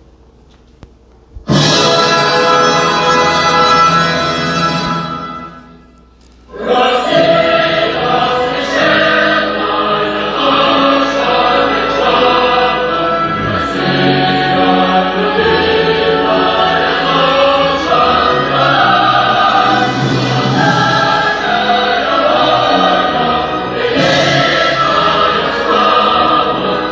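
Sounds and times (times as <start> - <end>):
choir singing held notes: 1.5 - 5.8, 6.5 - 26.9.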